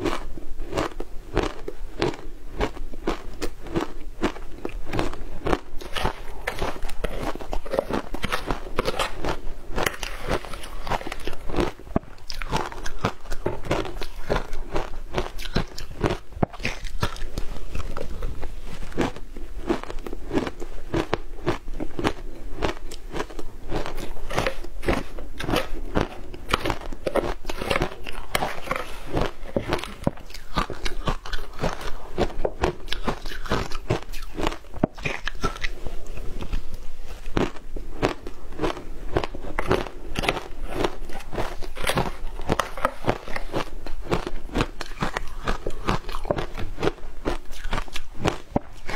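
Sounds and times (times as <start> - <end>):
chewing crunchy ice: 0.0 - 48.9.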